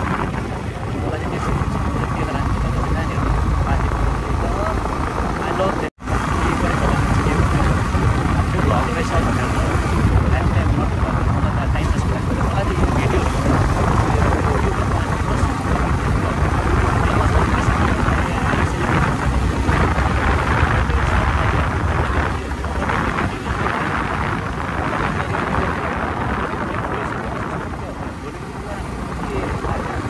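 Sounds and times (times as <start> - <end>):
road noise: 0.0 - 30.0
wind buffeting microphone: 0.0 - 30.0.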